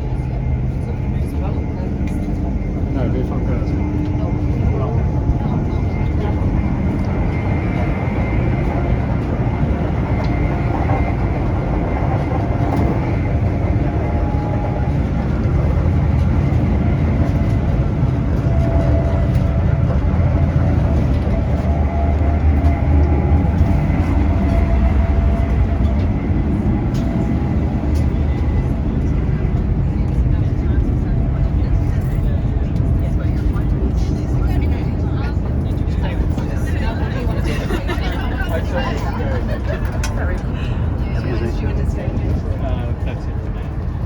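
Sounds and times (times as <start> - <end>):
train interior running rumble: 0.0 - 44.0.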